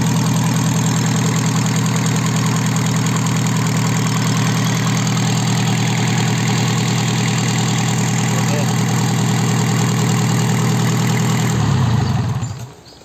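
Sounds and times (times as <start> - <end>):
diesel engine idling: 0.0 - 12.8.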